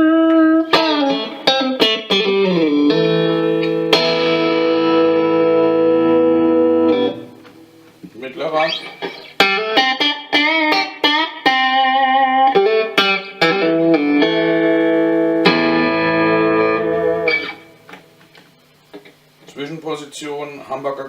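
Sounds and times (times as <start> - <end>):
electric guitar playing: 0.0 - 19.2.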